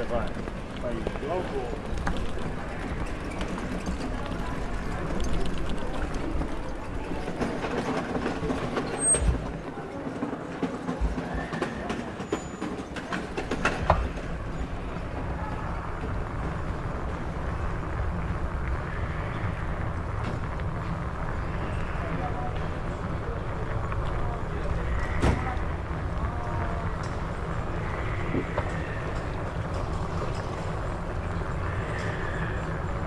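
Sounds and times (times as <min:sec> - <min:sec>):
bicycle rattling over rough street: 0:00.0 - 0:33.0.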